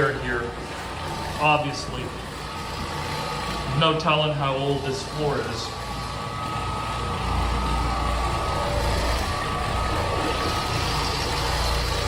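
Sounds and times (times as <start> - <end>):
machine running with low rumble: 0.0 - 12.0
thin steady whine: 0.0 - 12.0.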